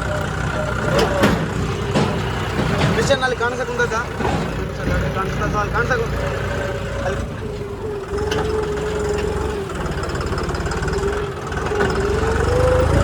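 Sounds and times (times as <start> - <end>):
engine running with whine: 0.0 - 13.0.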